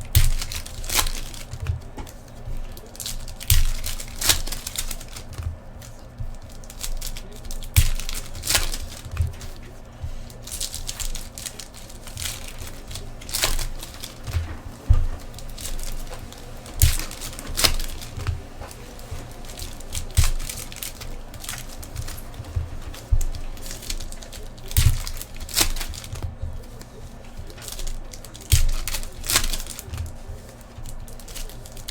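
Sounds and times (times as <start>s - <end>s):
foil wrappers crinkling and tearing: 0.0s - 31.9s.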